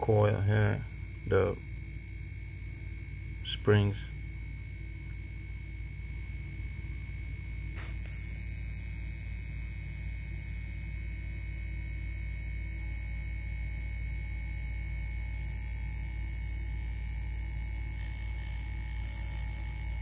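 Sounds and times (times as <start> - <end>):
compressor humming and whining: 0.0 - 20.0.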